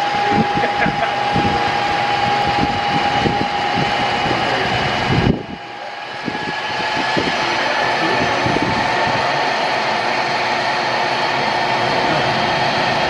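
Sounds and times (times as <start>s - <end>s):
low rumbling: 0.0s - 13.0s
model locomotives humming: 0.0s - 13.0s.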